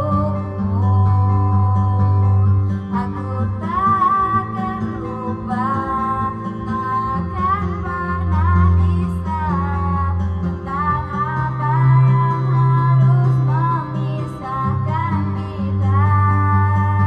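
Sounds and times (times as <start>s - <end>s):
backing music with bass: 0.0s - 17.0s
woman singing into microphone: 0.0s - 17.0s.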